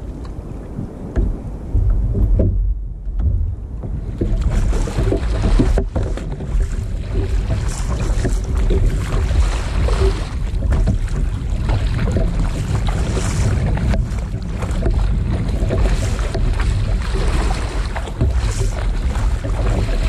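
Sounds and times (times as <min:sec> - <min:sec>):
paddle splashing in water: 0:00.0 - 0:20.0
waves slapping plastic hull: 0:00.0 - 0:20.0
wind rumble on microphone: 0:00.0 - 0:20.0.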